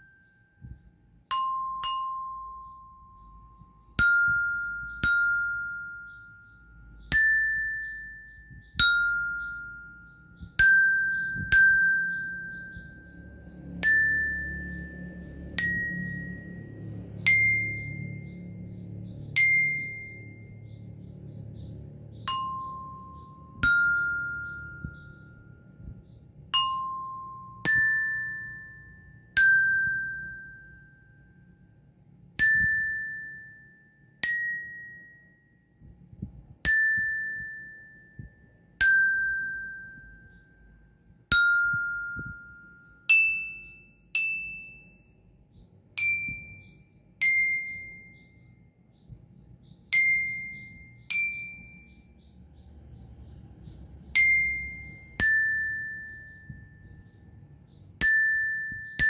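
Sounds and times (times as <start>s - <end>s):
bell lyre notes struck with mallet: 0.0s - 31.6s, 32.3s - 36.0s, 36.6s - 45.2s, 46.0s - 52.2s, 54.0s - 59.0s.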